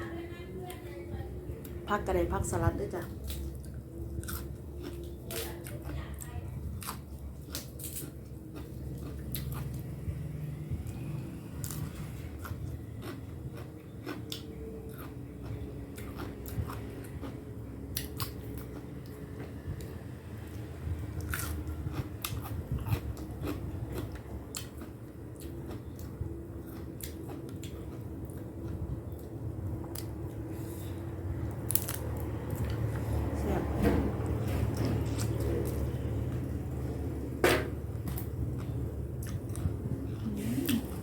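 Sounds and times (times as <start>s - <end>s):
person chewing crunchy food: 3.2s - 33.3s, 34.2s - 41.0s.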